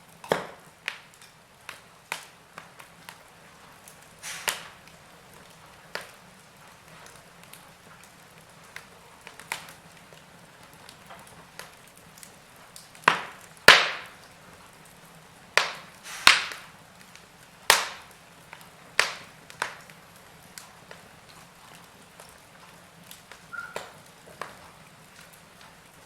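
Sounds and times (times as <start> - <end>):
faint low hiss: 0.0 - 26.0
logs crackling in a fireplace: 0.0 - 26.0.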